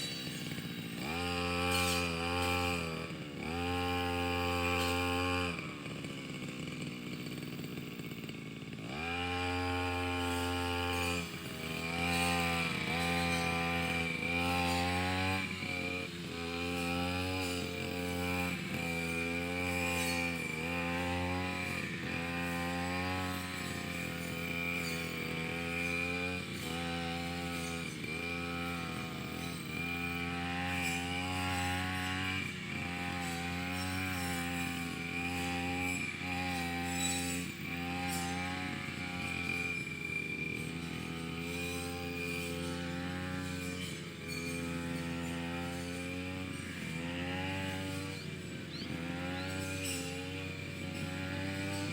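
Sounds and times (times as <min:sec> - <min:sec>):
brush cutter engine running: 0:00.0 - 0:51.9.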